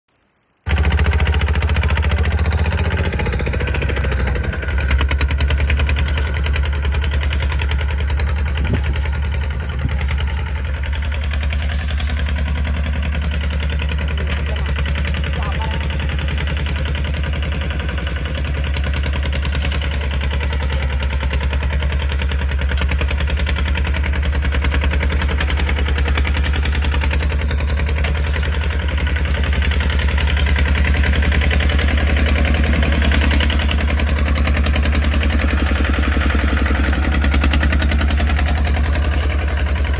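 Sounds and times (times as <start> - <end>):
diesel tractor engine running: 0.6 - 39.9.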